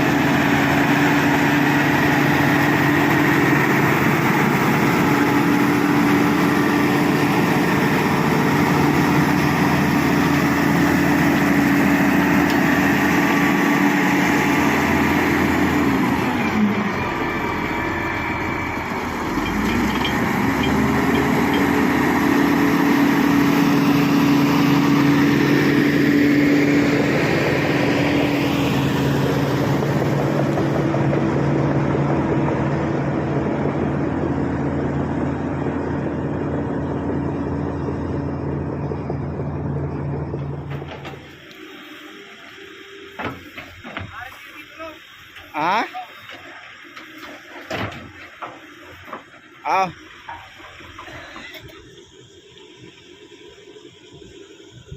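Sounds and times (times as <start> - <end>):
bulldozer diesel engine: 0.0 - 54.9.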